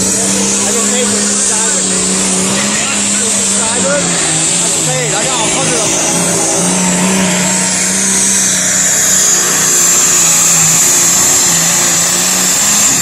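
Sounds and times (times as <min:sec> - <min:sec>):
high-pitched whine: 0:00.0 - 0:13.0
tractor engine droning under load: 0:00.0 - 0:13.0.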